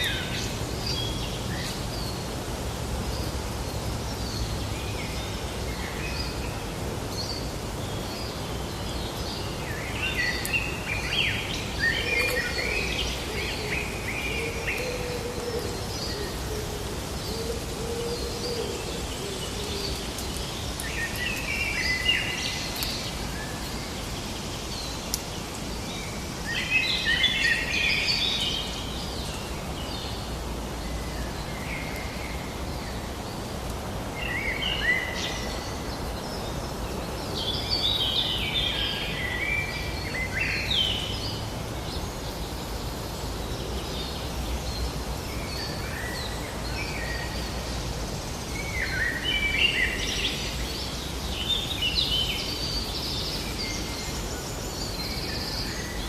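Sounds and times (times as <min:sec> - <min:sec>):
outdoor background hiss: 0:00.0 - 0:56.0
songbirds chirping: 0:00.0 - 0:56.0.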